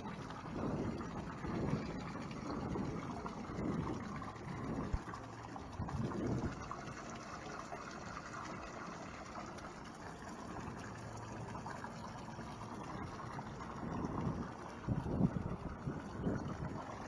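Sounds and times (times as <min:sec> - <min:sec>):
water lapping against boat hulls: 0:00.0 - 0:17.0.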